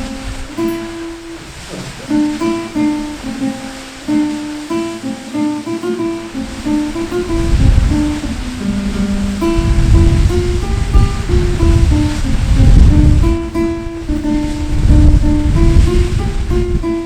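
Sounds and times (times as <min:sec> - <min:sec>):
acoustic guitar melody: 0:00.0 - 0:17.0
rushing water hiss: 0:00.0 - 0:17.0.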